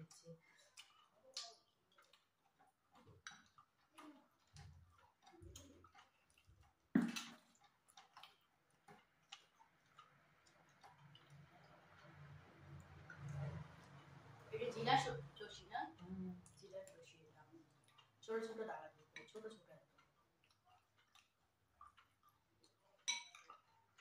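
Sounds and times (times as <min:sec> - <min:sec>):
mouth clicks and smacks eating: 0:00.0 - 0:14.5, 0:15.3 - 0:24.0.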